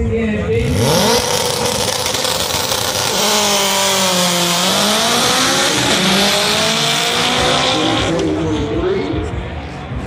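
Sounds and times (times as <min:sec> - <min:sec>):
drag car engine revving and accelerating: 0:00.5 - 0:08.9.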